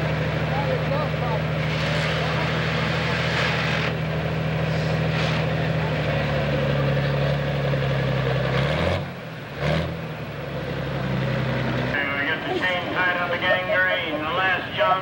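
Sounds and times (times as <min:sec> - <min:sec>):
diesel engine at full throttle: 0:00.0 - 0:15.0.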